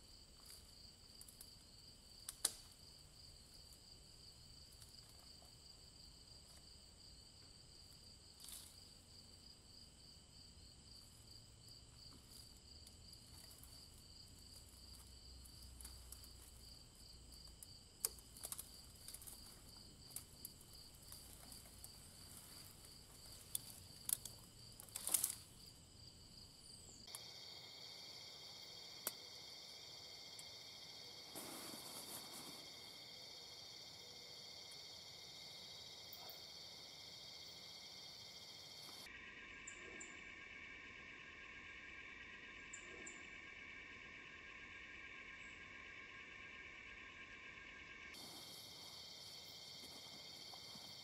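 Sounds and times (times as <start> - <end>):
crickets trilling: 0.0 - 51.0.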